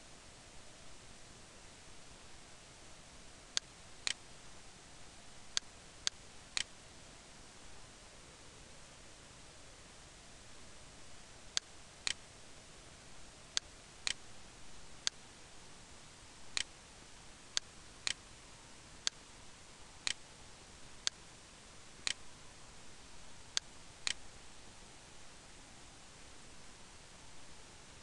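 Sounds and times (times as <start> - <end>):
faint hiss: 0.0 - 28.0.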